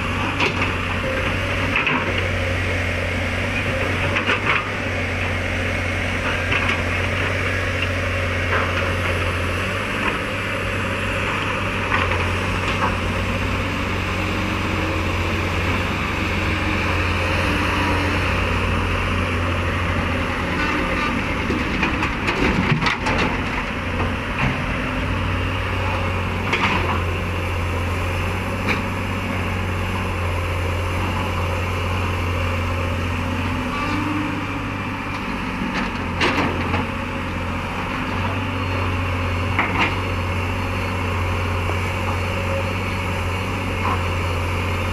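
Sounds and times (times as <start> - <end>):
excavator diesel engine humming: 0.0 - 44.9.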